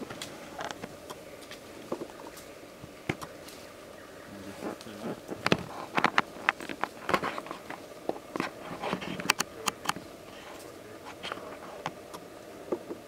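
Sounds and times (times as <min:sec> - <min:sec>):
bird raking through dry leaves: 0:00.0 - 0:09.3, 0:10.0 - 0:12.1.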